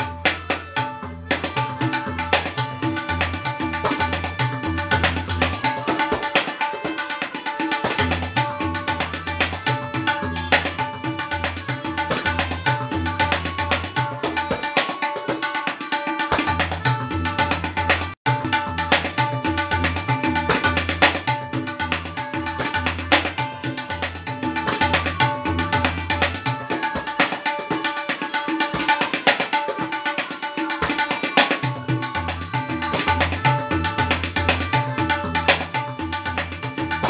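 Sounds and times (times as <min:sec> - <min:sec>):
rapid tabla strokes: 0:00.0 - 0:37.0.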